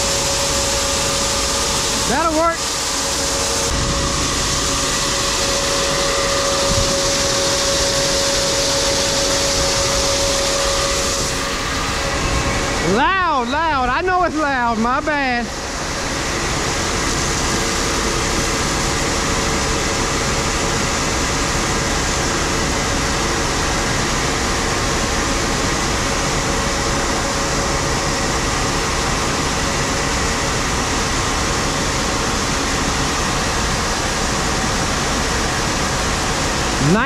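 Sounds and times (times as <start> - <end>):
grain auger running: 0.0 - 37.0.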